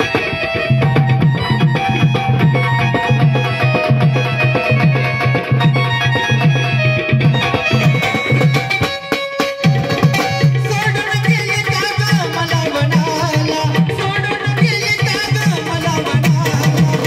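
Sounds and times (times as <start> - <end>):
hand drum beating: 0.0 - 17.0
held melody line: 0.0 - 17.0.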